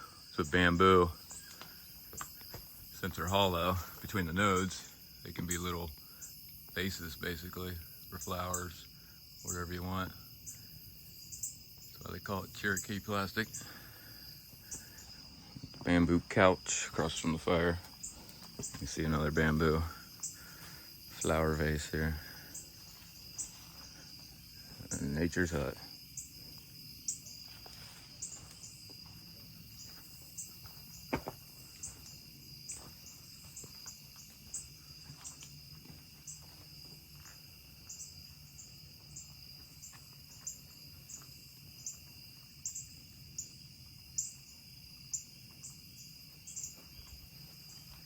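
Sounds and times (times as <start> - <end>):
insect chirps: 0.0 - 48.0
insects droning: 0.0 - 48.0.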